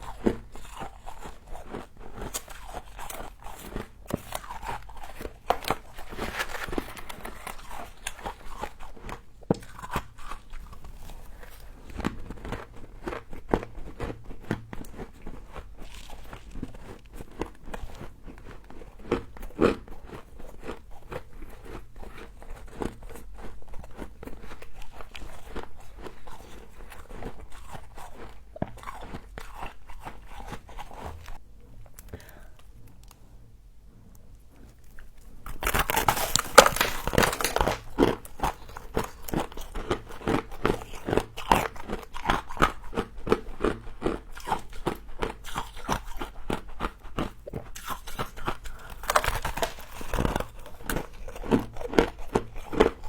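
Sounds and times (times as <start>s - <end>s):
crunching and chewing frost: 0.0s - 53.0s.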